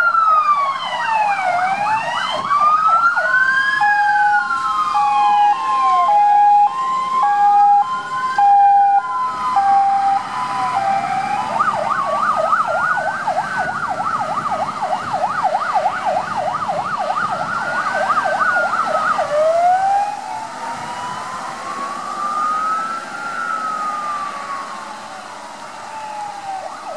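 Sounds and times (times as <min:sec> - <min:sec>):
fast siren yelp: 0:00.0 - 0:26.9
fire engine siren wailing: 0:00.0 - 0:26.9
two-tone hi-lo siren: 0:00.0 - 0:26.9.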